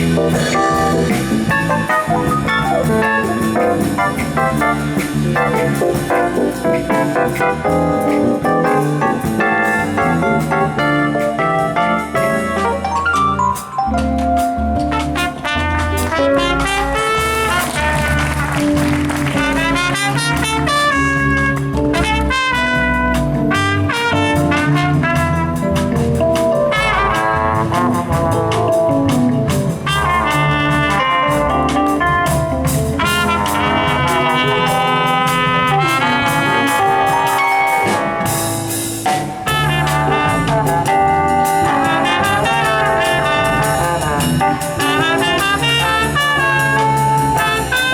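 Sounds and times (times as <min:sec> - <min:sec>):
bass line: 0:00.0 - 0:47.9
jazz band with brass: 0:00.0 - 0:47.9.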